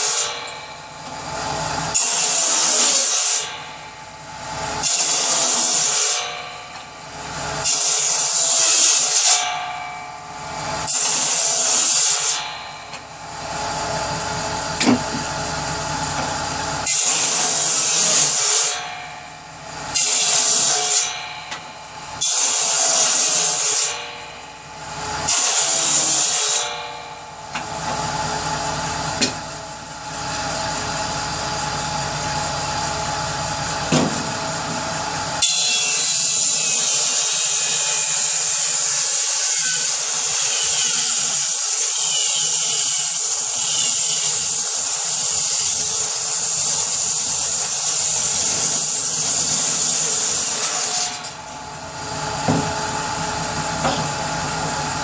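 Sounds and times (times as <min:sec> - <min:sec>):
power saw cutting wood: 0:00.0 - 0:09.6, 0:10.3 - 0:55.0.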